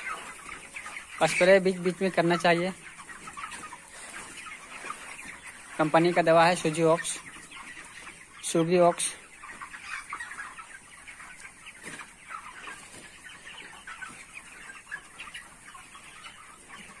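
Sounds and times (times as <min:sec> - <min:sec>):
chickens cheeping and clucking: 0:00.0 - 0:17.0.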